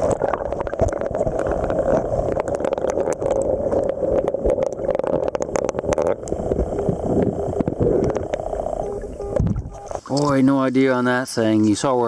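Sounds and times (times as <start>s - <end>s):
muffled underwater river rush: 0.0s - 10.6s
small crackling clicks: 0.1s - 10.4s.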